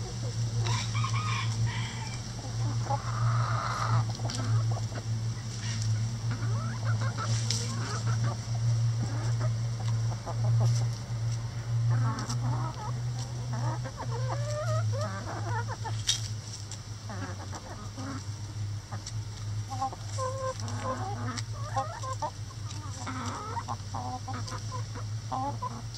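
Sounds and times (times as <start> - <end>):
chickens clucking: 0.0 - 25.9
steady low hum: 0.0 - 25.9.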